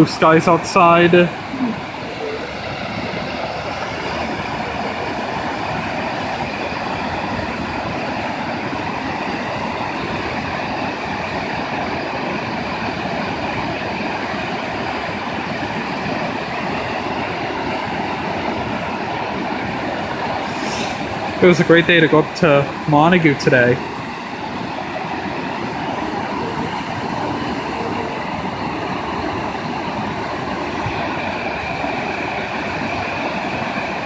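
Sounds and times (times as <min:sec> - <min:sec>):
whitewater rushing over waterfall: 0:00.0 - 0:34.0.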